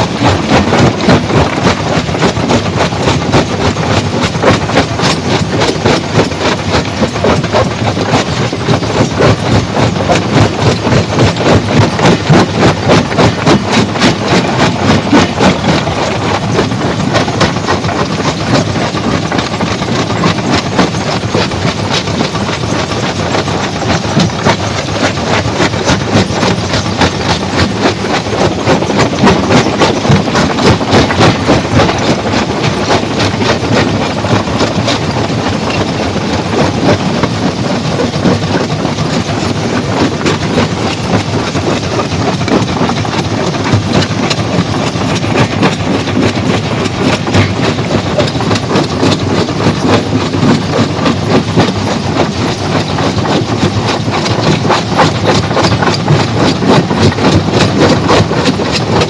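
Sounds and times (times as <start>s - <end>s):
stone-crushing machine running: 0.0s - 59.0s.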